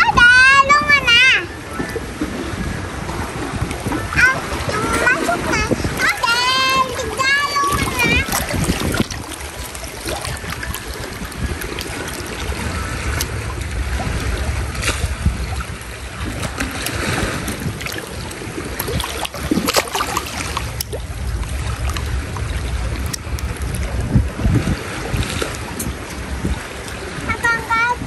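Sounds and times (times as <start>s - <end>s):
sea water: 0.0s - 28.0s
wind on microphone: 0.0s - 28.0s.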